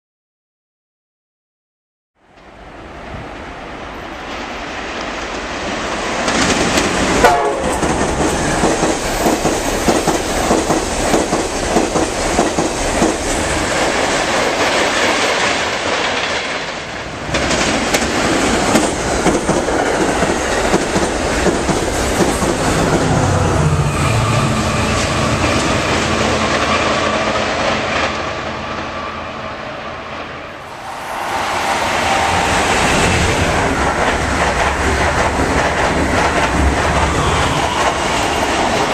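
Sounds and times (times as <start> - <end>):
train wheels roaring on rail: 2.3 - 38.9.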